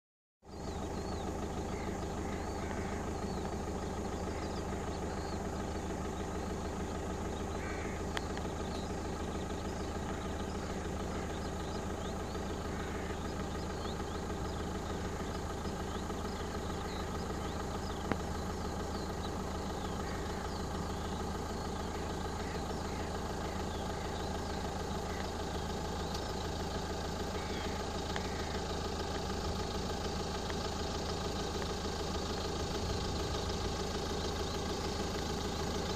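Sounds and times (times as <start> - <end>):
vehicle engine idling hum: 0.4 - 35.9.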